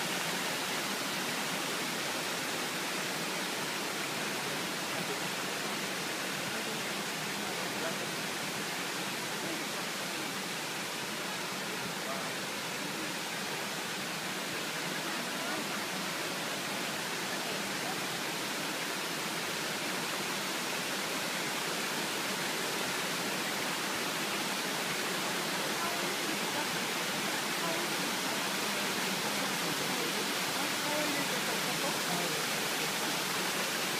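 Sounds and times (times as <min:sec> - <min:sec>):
waterfall rushing and splashing: 0:00.0 - 0:33.9.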